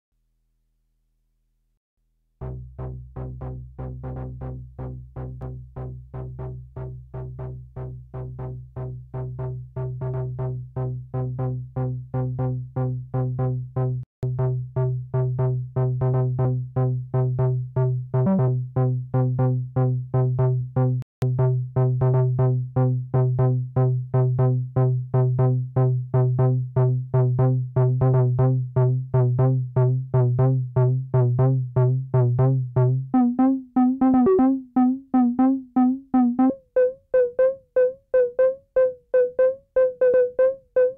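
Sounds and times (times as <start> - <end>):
synthesizer sequenced bassline: 2.4 - 40.9.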